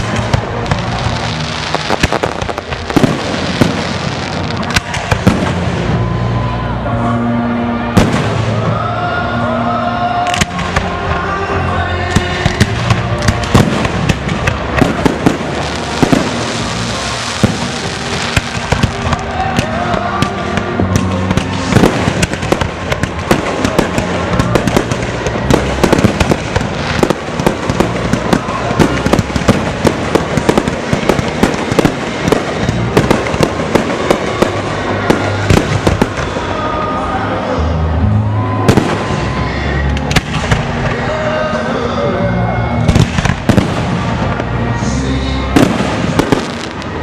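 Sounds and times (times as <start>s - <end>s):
fireworks exploding: 0.0s - 6.7s, 7.8s - 8.8s, 12.1s - 37.1s, 38.4s - 41.1s, 42.8s - 44.8s, 45.4s - 47.0s
music playing: 0.0s - 47.0s.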